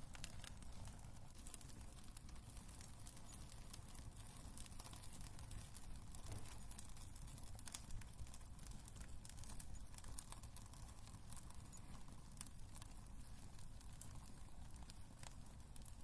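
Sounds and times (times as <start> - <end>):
low rumble of burning fire: 0.0 - 16.0
wood fire crackling: 0.0 - 16.0.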